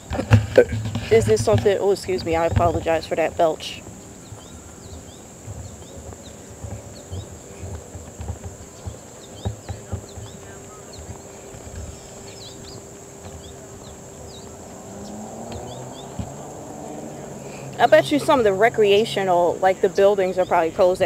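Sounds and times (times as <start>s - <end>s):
footsteps on a path: 0.0s - 19.4s
bird chirps: 0.0s - 21.0s
insects droning: 0.0s - 21.0s.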